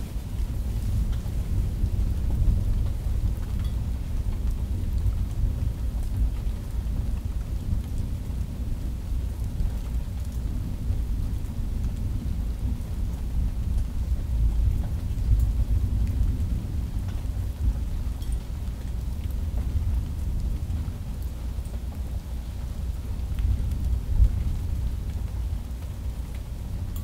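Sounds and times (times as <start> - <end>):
rain falling: 0.0 - 27.0.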